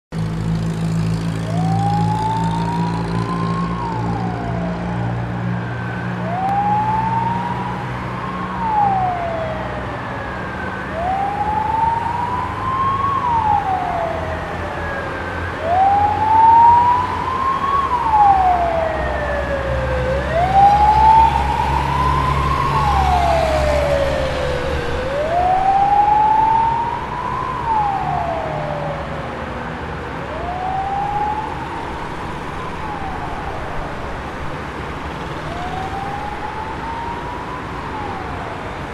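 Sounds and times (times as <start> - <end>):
street noise: 0.1 - 38.9
truck engine: 0.1 - 38.9
fire truck siren wailing: 0.4 - 38.9.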